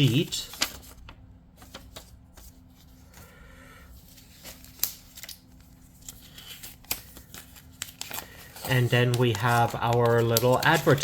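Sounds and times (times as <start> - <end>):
faint steady hum: 0.0 - 11.0
paper rustling: 0.0 - 11.0.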